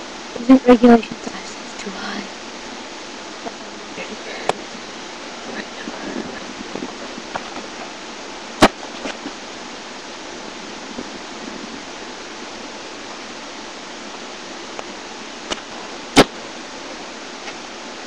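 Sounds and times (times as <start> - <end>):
microphone hiss: 0.0 - 18.0.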